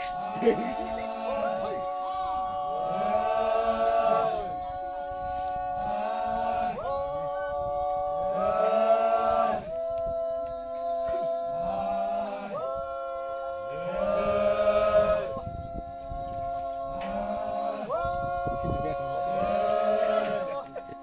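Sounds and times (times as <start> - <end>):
group chanting long held notes: 0.0 - 21.0.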